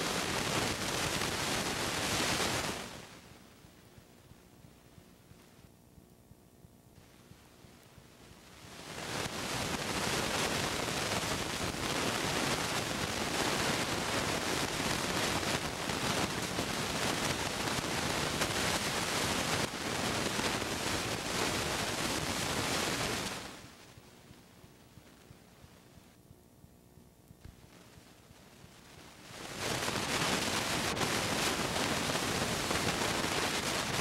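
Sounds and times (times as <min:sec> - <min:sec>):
steady even hiss: 0:00.0 - 0:34.0.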